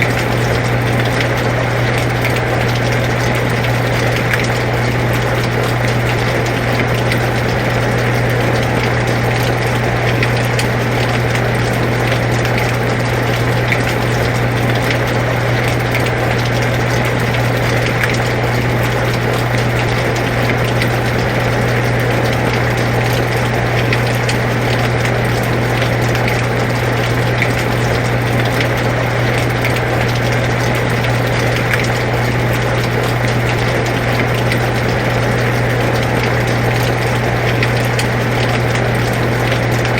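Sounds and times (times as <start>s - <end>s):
air conditioner humming: 0.0s - 39.9s
rain falling: 0.0s - 39.9s.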